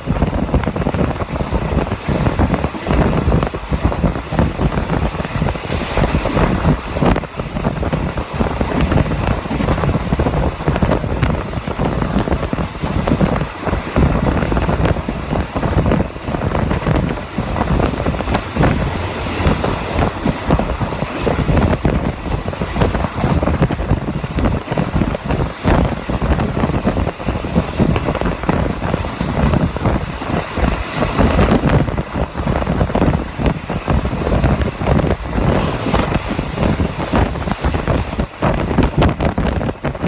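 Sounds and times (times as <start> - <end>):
train wheels clattering on rails: 0.0 - 40.0
wind buffeting microphone: 0.0 - 40.0.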